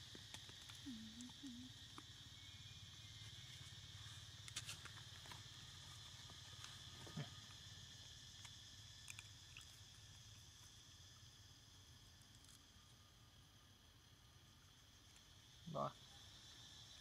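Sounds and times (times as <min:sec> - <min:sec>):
faint insect drone: 0:00.0 - 0:17.0.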